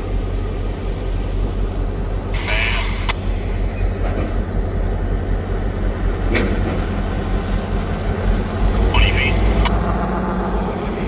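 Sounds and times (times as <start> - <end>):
freight train rumbling by: 0.0 - 11.0.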